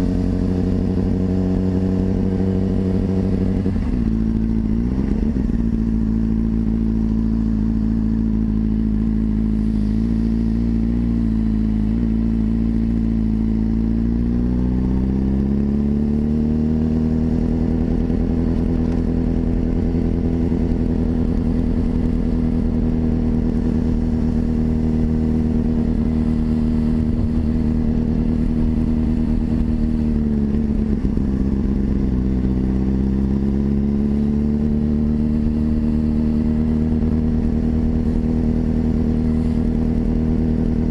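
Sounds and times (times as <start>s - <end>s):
low wind rumble on microphone: 0.0s - 40.9s
motorcycle engine running: 0.0s - 40.9s.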